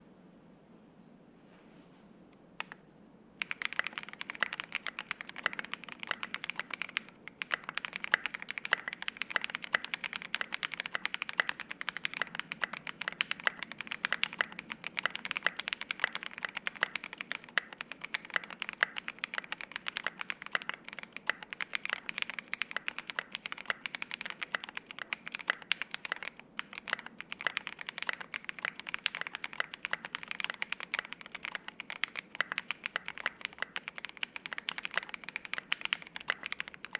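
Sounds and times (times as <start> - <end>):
fast mechanical keyboard typing: 3.4 - 36.9.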